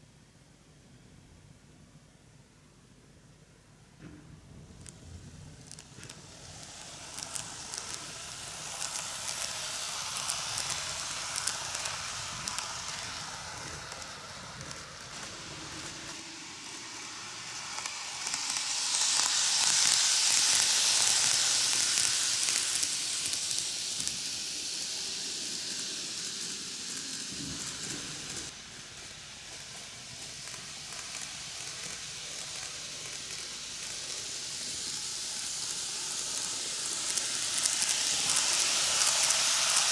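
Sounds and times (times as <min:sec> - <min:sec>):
model train wheels and motor: 0:03.3 - 0:39.9.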